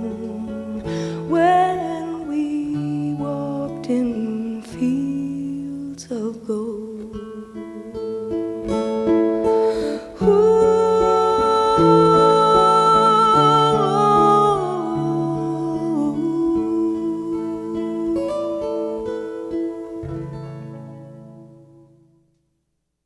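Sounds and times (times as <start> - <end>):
acoustic guitar playing: 0.0 - 22.7.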